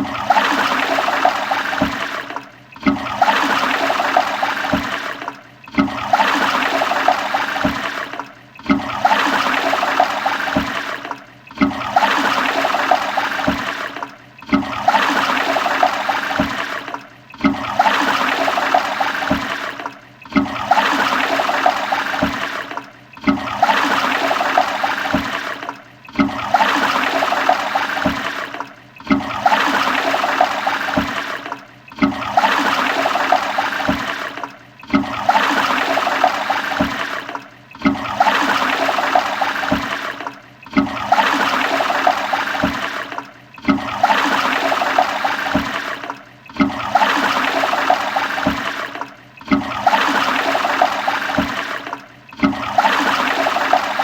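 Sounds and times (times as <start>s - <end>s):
toilet flushing: 0.0s - 54.0s.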